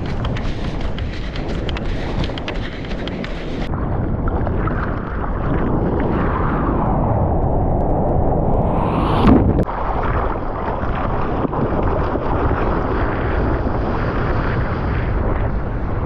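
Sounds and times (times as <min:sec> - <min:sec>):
rushing sea water splashing: 0:00.0 - 0:07.0, 0:09.5 - 0:16.0
wind buffeting microphone: 0:00.0 - 0:16.0.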